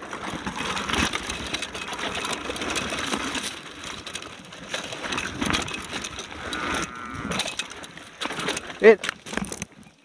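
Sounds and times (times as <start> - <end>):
mountain bike rattling on dirt trail: 0.0 - 10.0.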